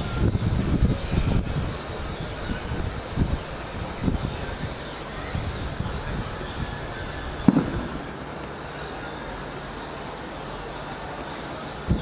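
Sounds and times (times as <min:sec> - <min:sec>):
distant traffic rumble: 0:00.0 - 0:12.0
small birds chirping: 0:00.0 - 0:12.0.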